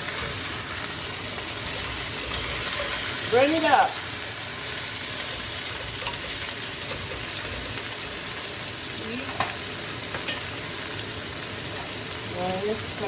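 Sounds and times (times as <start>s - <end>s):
chicken sizzling while frying: 0.0s - 13.0s.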